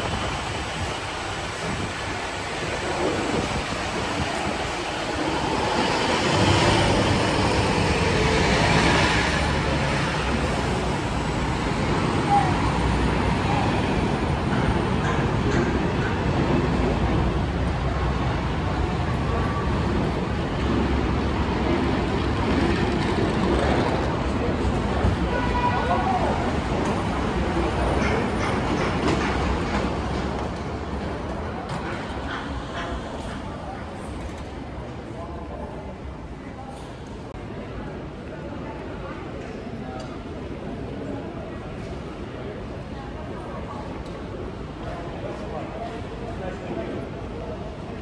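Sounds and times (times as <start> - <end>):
road traffic hum: 0.0 - 48.0.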